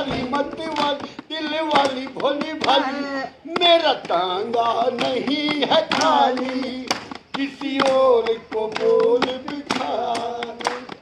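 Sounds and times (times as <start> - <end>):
sharp claps: 0.0 - 11.0.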